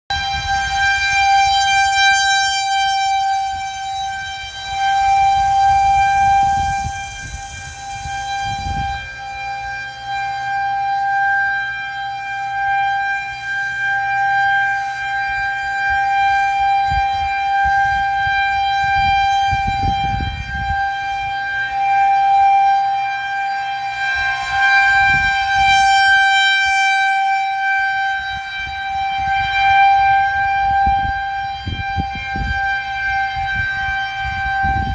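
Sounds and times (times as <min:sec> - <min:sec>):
warning siren wailing: 0:00.1 - 0:34.9.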